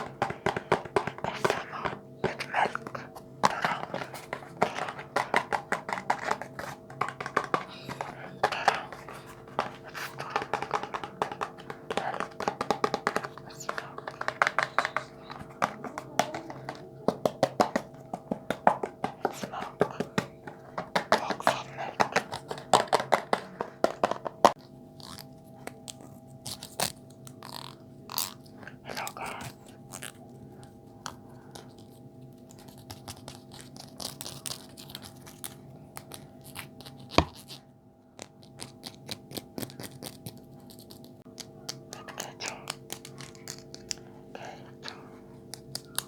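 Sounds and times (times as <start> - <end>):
crisp clicks and taps: 0.0 - 31.8, 38.2 - 46.0.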